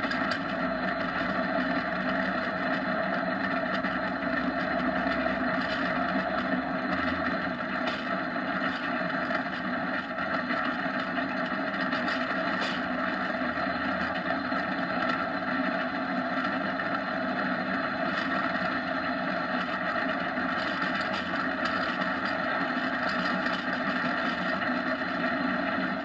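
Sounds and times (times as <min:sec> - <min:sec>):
kart wheels rolling on asphalt: 0:00.0 - 0:26.0.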